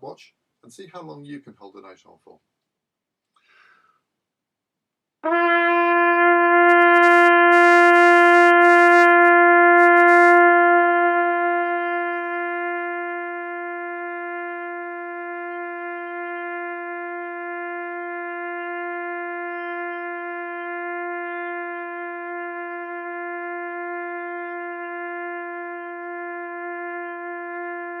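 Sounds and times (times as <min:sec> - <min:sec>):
trumpet long note: 0:05.2 - 0:28.0.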